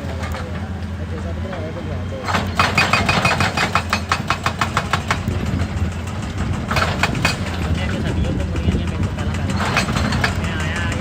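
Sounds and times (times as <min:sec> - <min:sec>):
diesel engine running: 0:00.0 - 0:11.0
hydraulic hammer pounding rock: 0:00.0 - 0:11.0.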